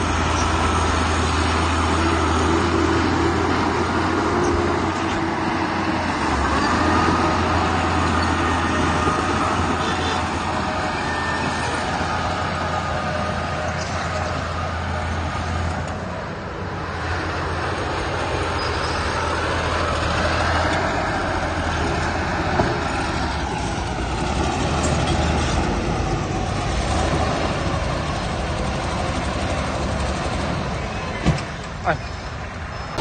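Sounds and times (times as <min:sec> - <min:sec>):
heavy machinery engine under load: 0:00.0 - 0:33.0.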